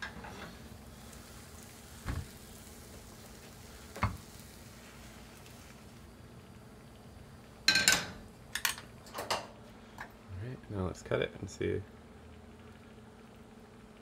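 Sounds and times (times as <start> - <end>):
sizzling hiss of cooking: 0.0 - 14.0.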